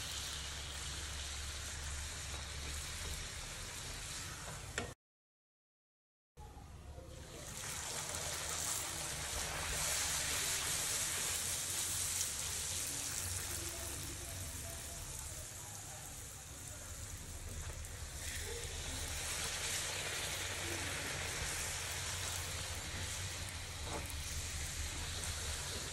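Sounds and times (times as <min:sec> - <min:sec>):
oil sizzling in deep-frying: 0:00.0 - 0:05.0, 0:07.0 - 0:25.9.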